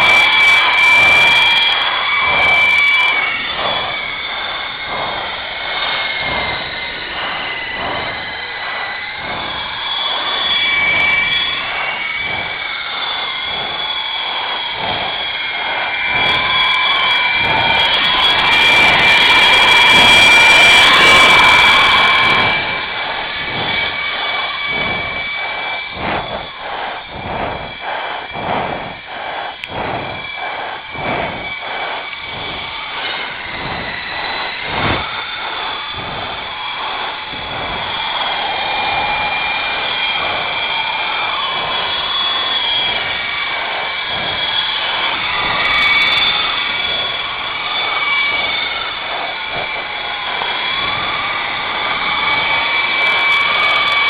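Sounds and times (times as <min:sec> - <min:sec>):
rc helicopter motors whining: 0:00.0 - 0:54.0.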